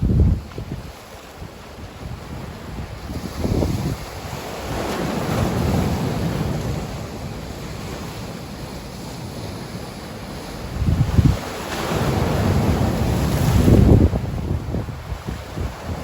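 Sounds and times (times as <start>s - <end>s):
sea waves washing: 0.0s - 16.0s
wind buffeting microphone: 0.0s - 16.0s.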